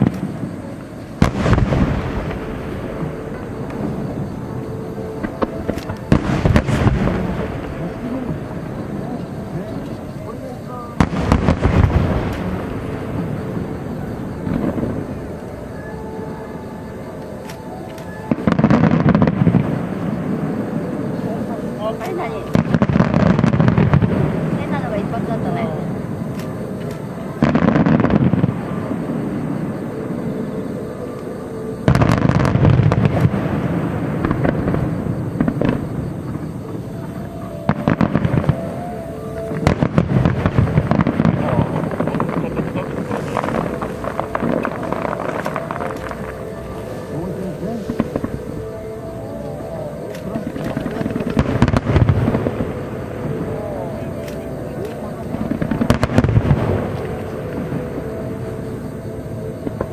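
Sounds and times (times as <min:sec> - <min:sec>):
firework sharp cracks: 0:00.0 - 0:04.4, 0:05.1 - 0:09.0, 0:10.9 - 0:15.6, 0:17.2 - 0:20.6, 0:21.9 - 0:29.4, 0:31.8 - 0:48.9, 0:50.0 - 0:58.1
firework shells booming: 0:00.0 - 0:04.5, 0:05.1 - 0:15.6, 0:17.6 - 0:21.2, 0:22.0 - 0:29.8, 0:31.8 - 0:49.0, 0:50.1 - 0:58.1
continuous rumble: 0:00.0 - 0:59.9.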